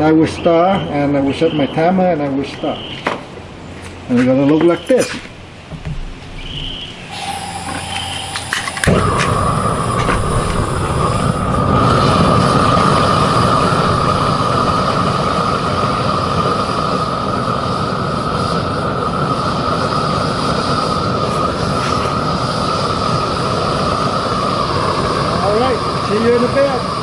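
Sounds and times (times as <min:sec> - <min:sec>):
propane burner flame rushing: 0:00.0 - 0:27.0.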